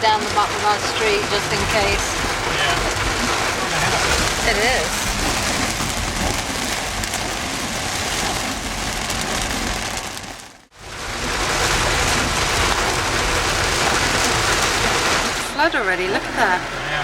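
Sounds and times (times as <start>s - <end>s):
heavy rain on a car: 0.0s - 17.0s.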